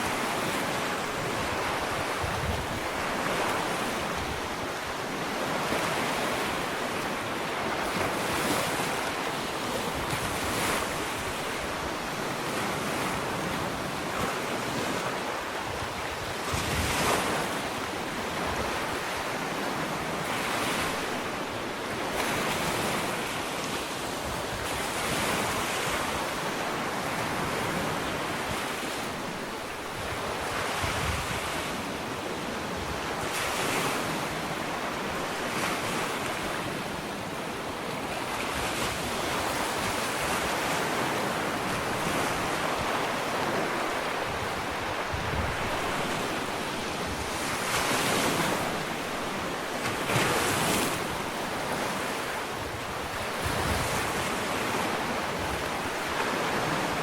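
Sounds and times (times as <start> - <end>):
wind on microphone: 0.0 - 21.0, 21.9 - 36.8, 38.0 - 57.0
ocean waves on beach: 0.0 - 57.0.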